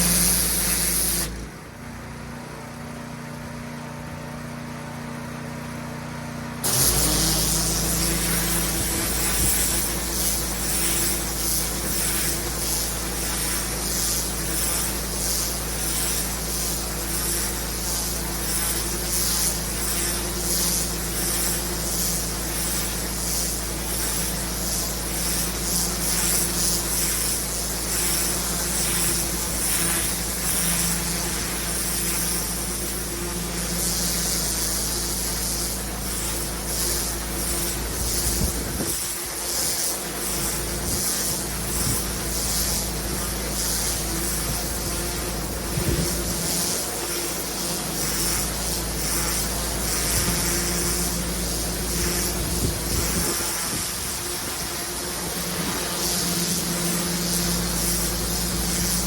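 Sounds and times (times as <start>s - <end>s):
water jet spraying paving: 0.0s - 1.5s, 6.6s - 59.0s
pressure washer engine hum: 0.0s - 59.0s.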